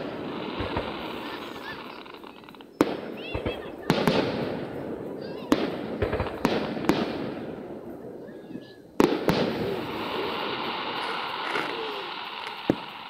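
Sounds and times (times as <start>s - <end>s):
fireworks bangs: 0.0s - 13.0s
fireworks hiss: 0.0s - 13.0s.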